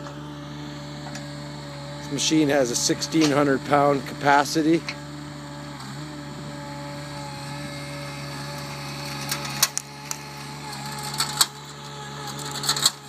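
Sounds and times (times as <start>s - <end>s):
loader engine hum: 0.0s - 13.0s.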